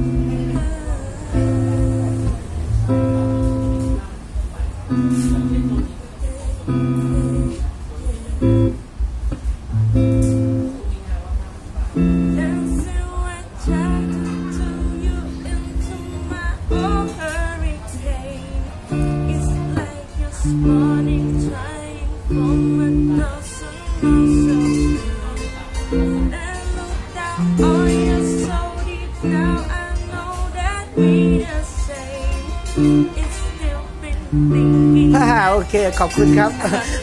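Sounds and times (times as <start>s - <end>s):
woman singing: 0.0s - 9.5s, 10.2s - 37.0s
electric guitar chords: 0.0s - 37.0s
steady low beat: 0.0s - 37.0s.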